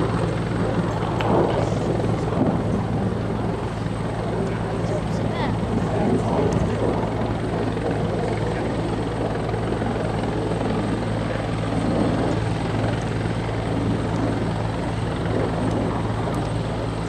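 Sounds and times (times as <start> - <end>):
helicopter rotor chop: 0.0 - 17.0.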